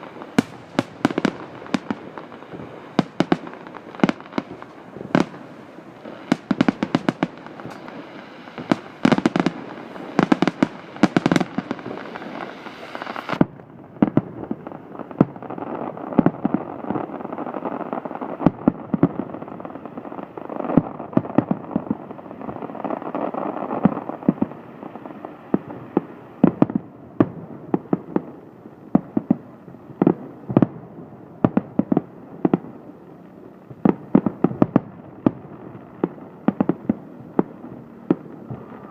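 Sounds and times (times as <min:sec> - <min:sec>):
aerial fireworks bursting: 0:00.0 - 0:38.9.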